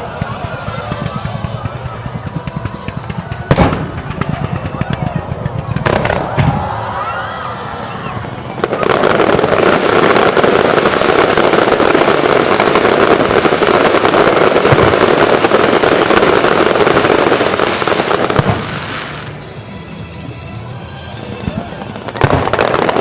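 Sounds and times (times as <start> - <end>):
fireworks crackling: 0.0 - 20.1, 21.0 - 23.0.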